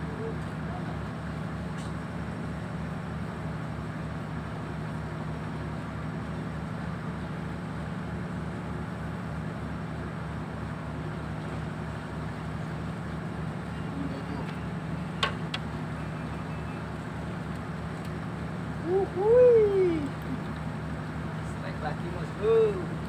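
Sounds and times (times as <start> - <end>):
boat engine throbbing: 0.0 - 23.0.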